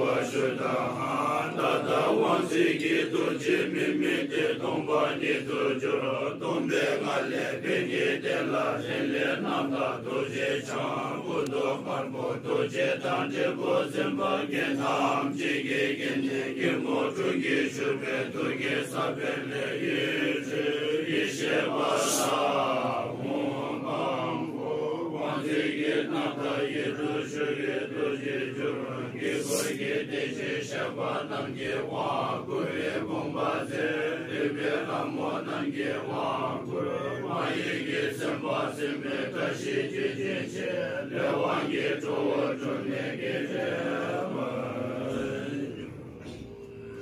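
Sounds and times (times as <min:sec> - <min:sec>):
monks chanting in low voices: 0:00.0 - 0:47.0.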